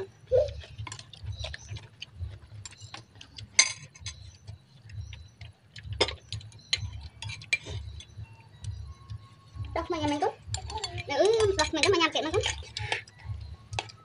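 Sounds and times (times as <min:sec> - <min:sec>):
spoons clinking on ceramic bowls: 0:00.6 - 0:05.1, 0:05.9 - 0:08.2, 0:09.6 - 0:14.0.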